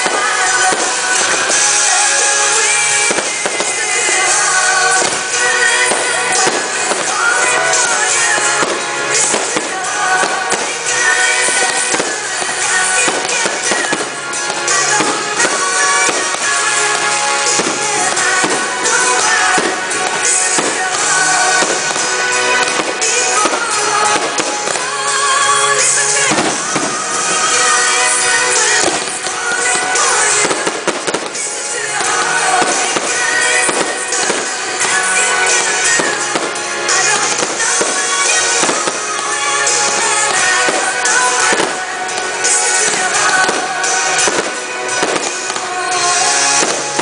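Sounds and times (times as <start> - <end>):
fireworks bursting: 0.0 - 47.0
music playing: 0.0 - 47.0.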